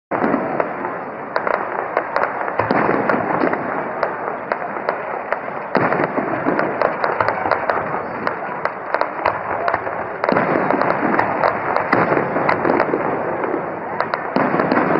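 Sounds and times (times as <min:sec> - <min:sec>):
fireworks bursting and crackling: 0:00.1 - 0:14.9.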